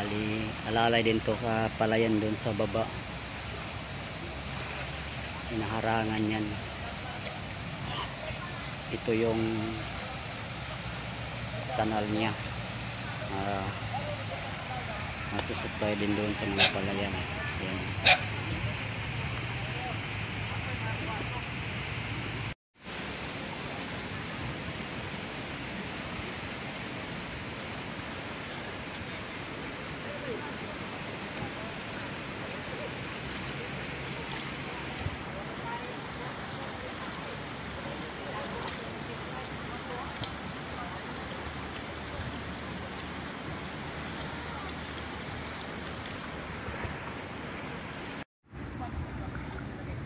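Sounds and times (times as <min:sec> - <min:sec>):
rushing outdoor noise: 0:00.0 - 0:50.0.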